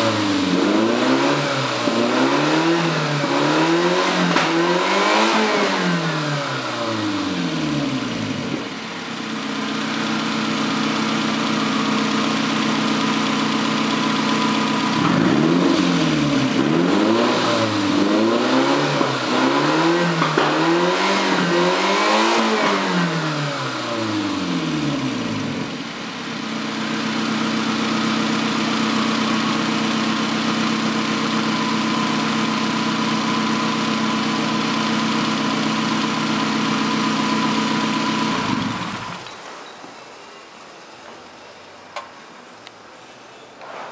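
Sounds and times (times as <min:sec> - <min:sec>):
car engine idling and revving: 0:00.0 - 0:39.4.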